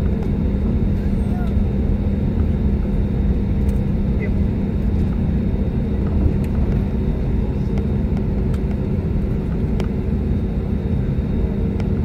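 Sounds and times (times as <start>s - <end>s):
jet engines rumbling in cabin: 0.0s - 12.0s.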